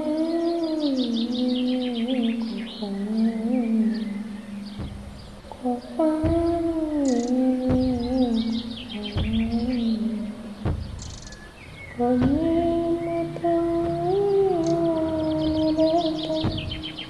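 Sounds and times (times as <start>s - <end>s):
birds chirping: 0.0s - 17.0s
woman singing long wavering notes: 0.0s - 17.0s.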